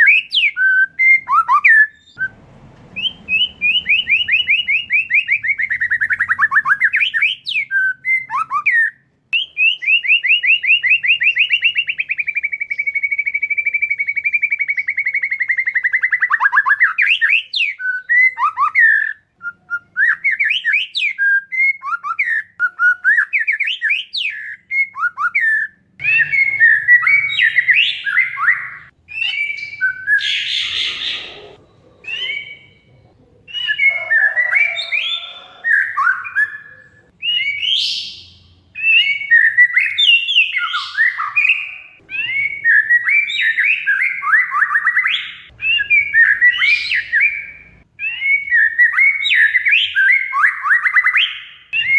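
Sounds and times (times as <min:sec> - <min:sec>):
songbird singing whistled phrases: 0:00.0 - 0:32.9, 0:33.5 - 0:51.9.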